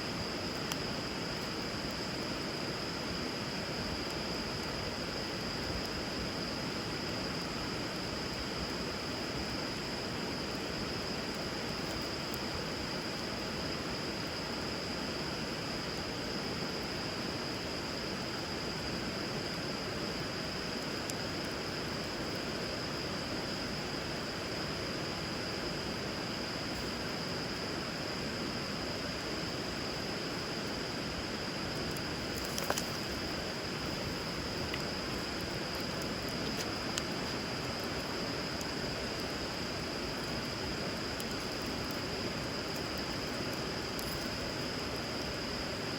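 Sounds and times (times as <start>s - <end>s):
wood fire crackling: 0.1s - 23.2s, 26.1s - 45.9s.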